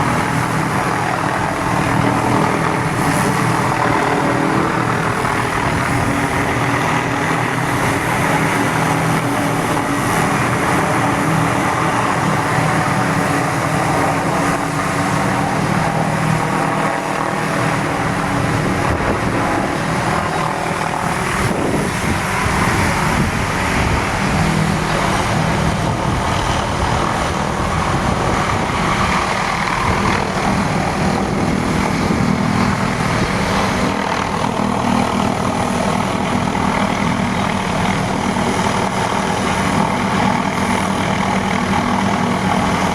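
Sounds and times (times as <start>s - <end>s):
helicopter rotors and engine drone: 0.0s - 42.9s.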